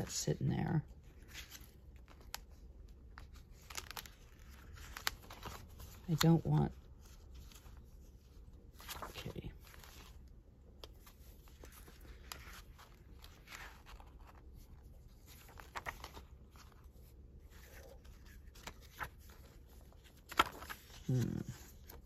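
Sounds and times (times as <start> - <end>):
paper pages rustling: 0.9 - 22.0.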